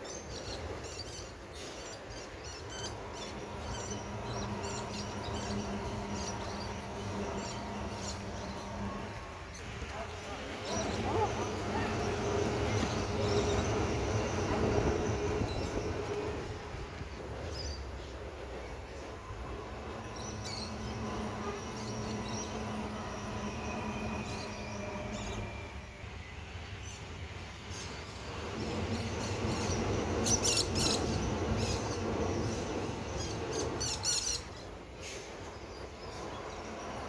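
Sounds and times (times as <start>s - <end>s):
electric train rumble: 0.0s - 37.0s
train hum: 0.0s - 37.0s
faint high whine: 0.1s - 37.0s.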